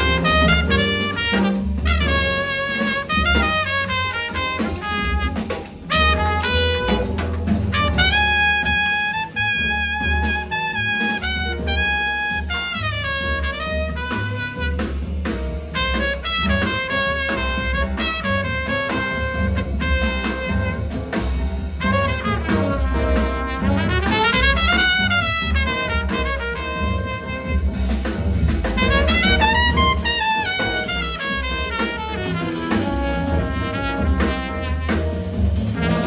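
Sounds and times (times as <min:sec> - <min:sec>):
drum kit: 0:00.0 - 0:36.0
piano: 0:00.0 - 0:36.0
trumpet melody: 0:00.0 - 0:36.0
upright bass: 0:00.0 - 0:36.0.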